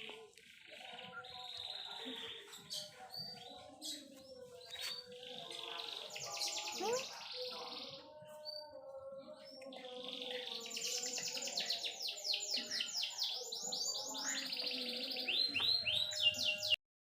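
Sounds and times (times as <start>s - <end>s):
bird chirping: 0.0s - 16.8s.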